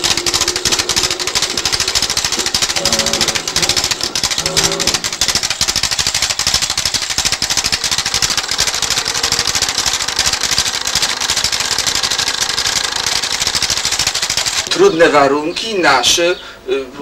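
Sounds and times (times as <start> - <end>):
machine clattering rapidly: 0.0 - 15.1.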